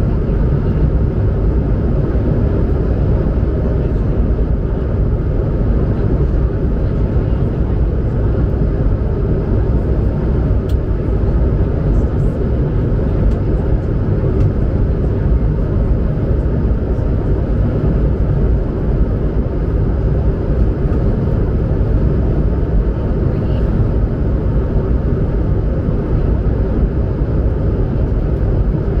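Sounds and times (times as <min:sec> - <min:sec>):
airliner cabin engine rumble: 0:00.0 - 0:29.0.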